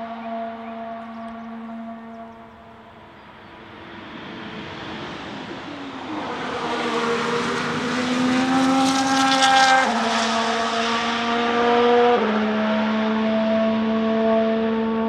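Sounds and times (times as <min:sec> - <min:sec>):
racing car engine accelerating: 0:00.0 - 0:15.0.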